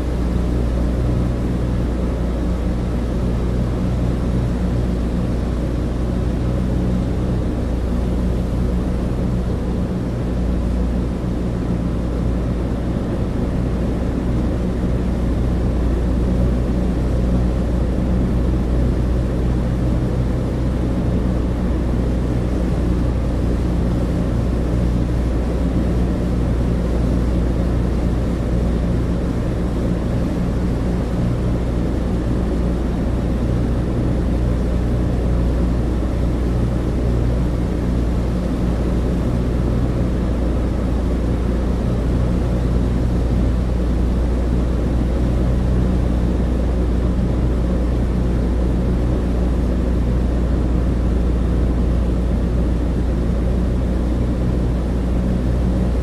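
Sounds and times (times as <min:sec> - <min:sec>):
airplane propeller engines droning: 0:00.0 - 0:56.0.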